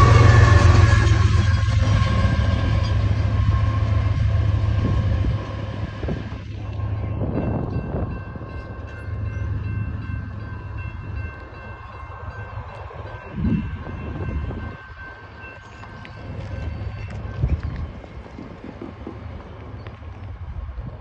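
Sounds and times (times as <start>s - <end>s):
railroad crossing bell ringing: 0.0s - 18.3s.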